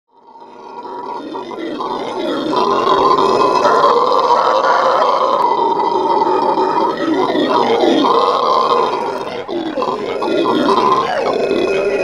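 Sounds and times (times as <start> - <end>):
howler monkeys howling: 0.2 - 12.0.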